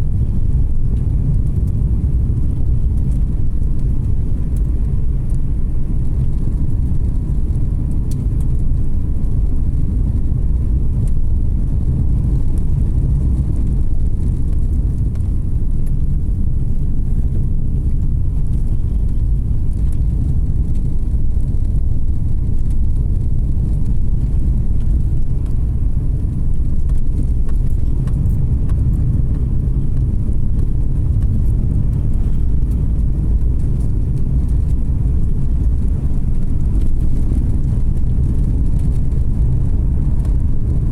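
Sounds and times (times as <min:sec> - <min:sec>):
car engine rumble: 0:00.0 - 0:40.9
tyre noise on road: 0:00.0 - 0:40.9.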